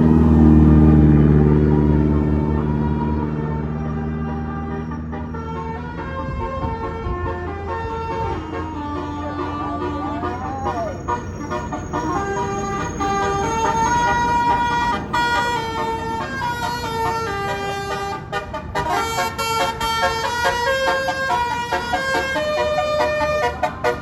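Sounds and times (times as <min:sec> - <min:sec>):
musical air horn playing tune: 0:01.0 - 0:24.0.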